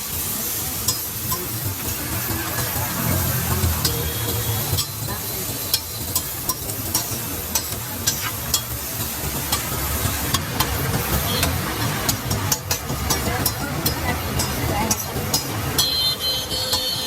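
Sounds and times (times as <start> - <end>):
batter sizzling on a griddle: 0.0 - 17.0
metal spatula scraping and tapping: 0.8 - 17.0.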